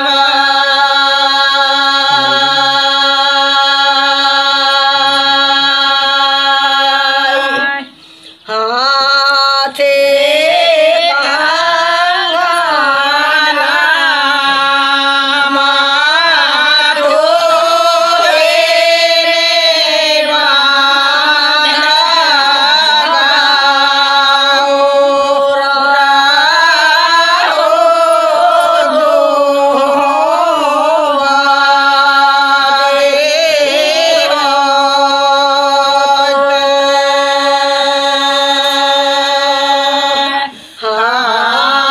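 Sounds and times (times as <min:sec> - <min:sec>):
women singing folk song: 0:00.0 - 0:41.9.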